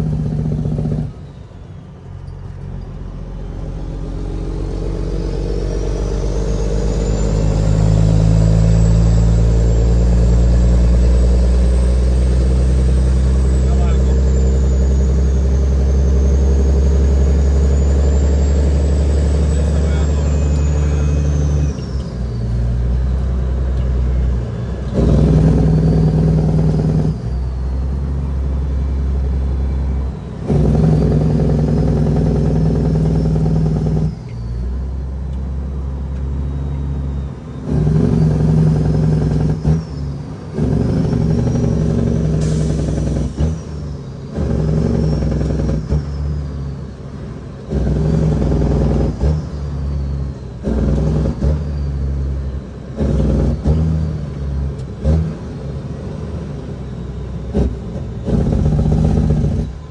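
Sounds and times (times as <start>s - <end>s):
diesel truck engine working hard: 0.0s - 59.9s.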